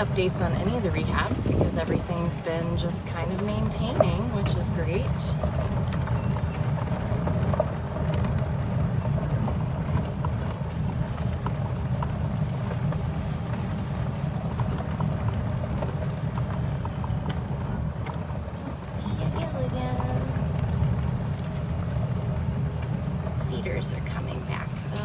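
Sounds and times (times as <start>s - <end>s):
small vehicle rumbling on dirt: 0.0s - 25.0s.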